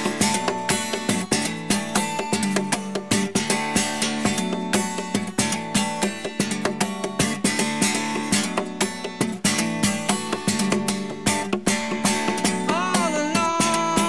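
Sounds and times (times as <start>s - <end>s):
acoustic guitar slapped percussively: 0.0s - 14.0s.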